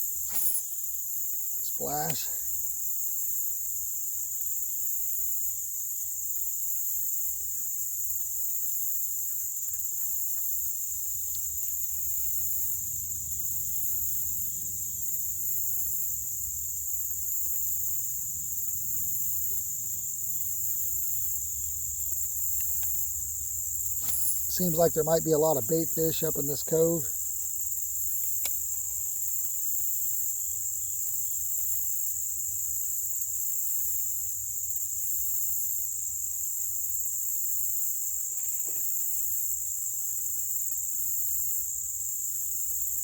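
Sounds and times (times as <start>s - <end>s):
insects buzzing chorus: 0.0s - 43.0s.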